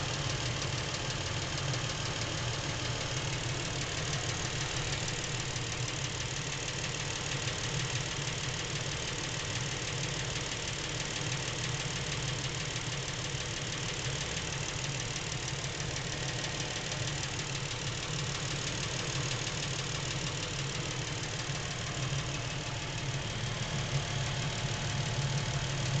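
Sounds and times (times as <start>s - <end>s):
car engine idling: 0.0s - 26.0s
engine knocking: 0.0s - 26.0s.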